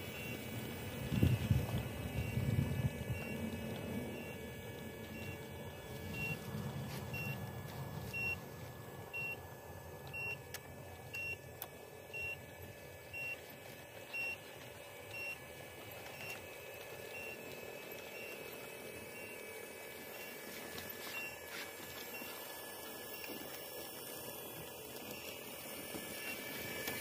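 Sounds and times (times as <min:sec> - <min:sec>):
excavator travel alarm beeping: 0:00.0 - 0:08.4, 0:09.1 - 0:09.4, 0:10.0 - 0:10.5, 0:11.1 - 0:14.4, 0:15.1 - 0:24.4.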